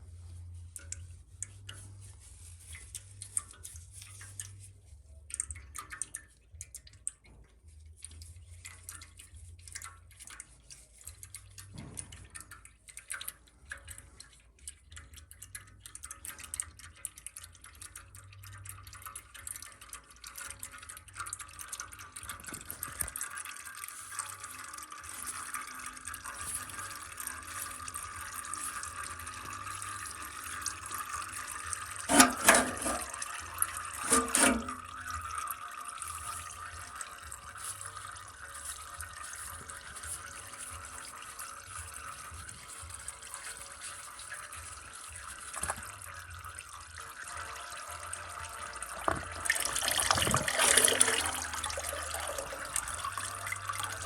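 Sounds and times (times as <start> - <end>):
oil dripping into a pan: 0.0 - 54.0.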